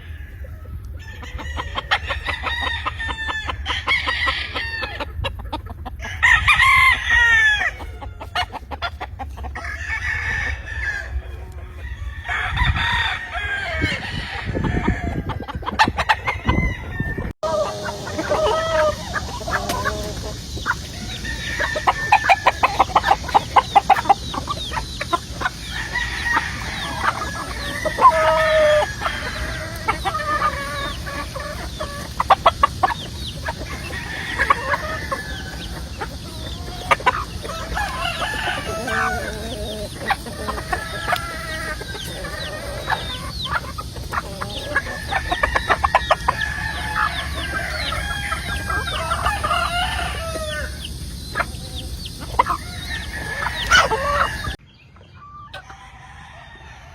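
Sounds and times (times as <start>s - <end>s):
roosters crowing: 0.0s - 54.6s, 55.2s - 56.9s
chickens clucking: 0.0s - 56.9s.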